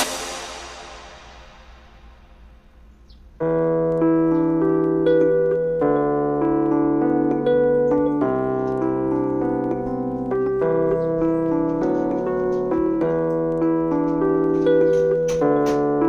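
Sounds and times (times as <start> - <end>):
piano music with held chords: 0.0 - 0.7, 3.2 - 16.0
electronic music: 0.0 - 2.7, 3.4 - 16.0.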